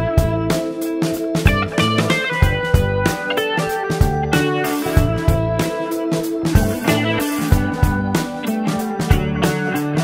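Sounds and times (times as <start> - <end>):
drum kit beat: 0.0 - 10.0
electric guitar: 0.0 - 10.0.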